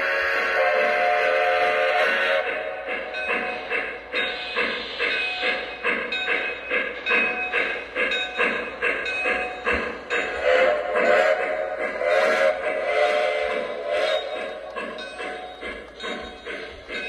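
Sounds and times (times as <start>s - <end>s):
model steam locomotive chuffs: 0.0s - 17.0s.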